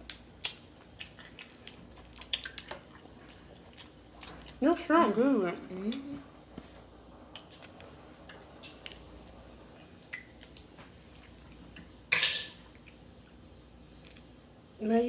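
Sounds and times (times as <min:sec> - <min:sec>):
seafood being picked apart and chewed: 0:00.0 - 0:04.6, 0:06.6 - 0:14.4.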